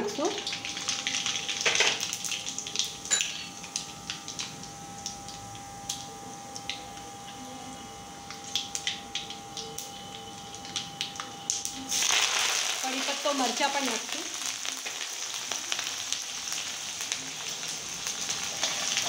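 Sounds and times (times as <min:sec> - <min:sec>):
seeds sizzling in hot oil: 0:00.0 - 0:19.0.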